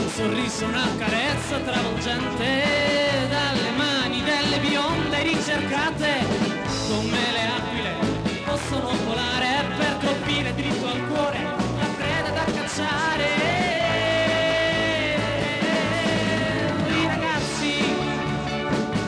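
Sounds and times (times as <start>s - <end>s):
person singing: 0.0s - 18.5s
drum kit: 0.0s - 19.0s
keyboards: 0.0s - 19.0s.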